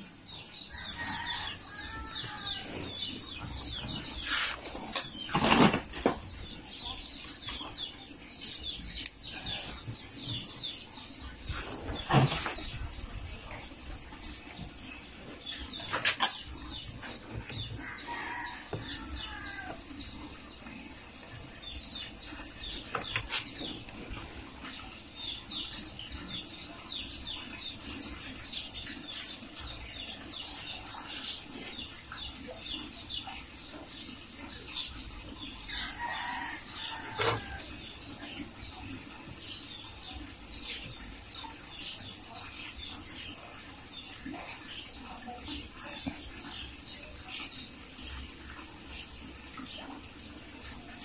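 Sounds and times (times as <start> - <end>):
chickens clucking: 0.0 - 51.0
small birds chirping: 0.0 - 51.0.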